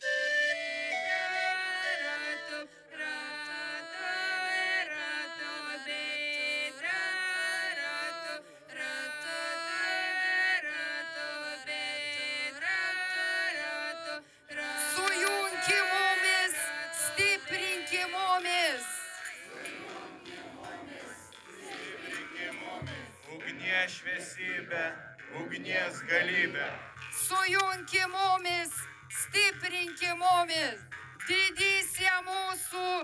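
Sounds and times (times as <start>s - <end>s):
group of voices singing: 0.9s - 33.0s.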